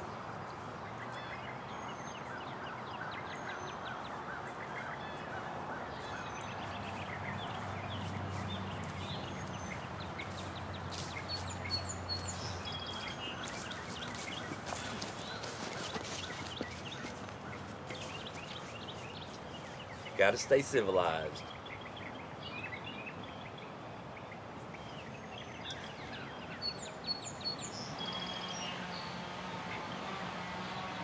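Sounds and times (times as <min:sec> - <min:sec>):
birds chirping and calling: 0:00.0 - 0:23.6, 0:24.6 - 0:30.0.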